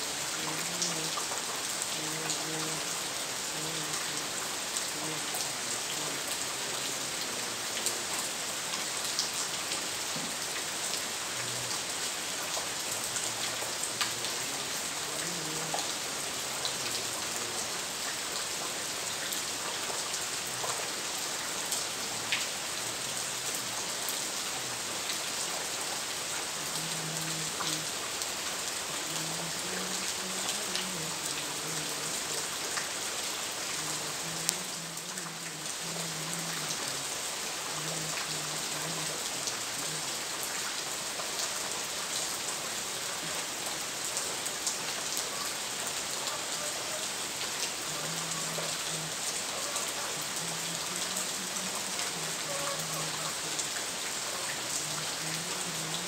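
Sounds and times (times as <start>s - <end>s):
raindrops pattering: 0.0s - 56.0s
steady rain hiss: 0.0s - 56.0s.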